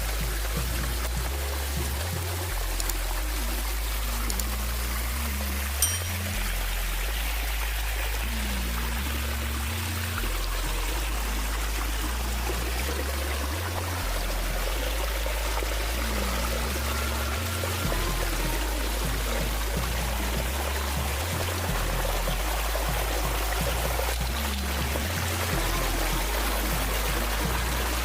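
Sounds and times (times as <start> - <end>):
music with deep bass line: 0.0 - 28.0
running water: 0.0 - 28.0.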